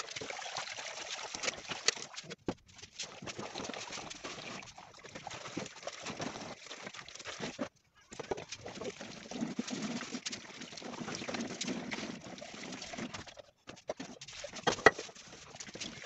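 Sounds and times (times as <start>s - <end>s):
water splashing into sink: 0.0s - 13.3s
sponge scrubbing a pot: 0.0s - 16.0s.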